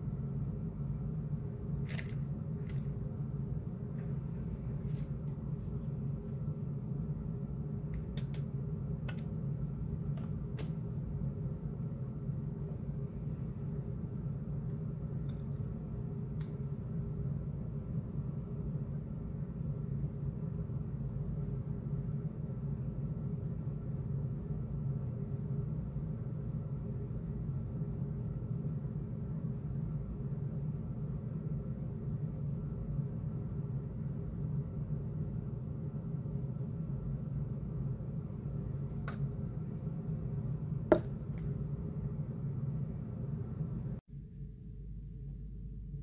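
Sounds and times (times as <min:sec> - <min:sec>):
low hum and rumble: 0:00.0 - 0:46.0.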